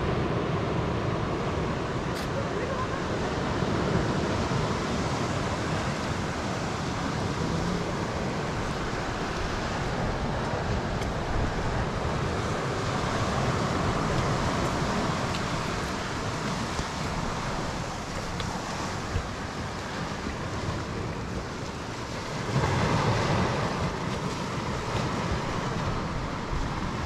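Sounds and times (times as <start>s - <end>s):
surf breaking on rocky shore: 0.0s - 27.0s
wind rumbling on microphone: 0.0s - 27.0s.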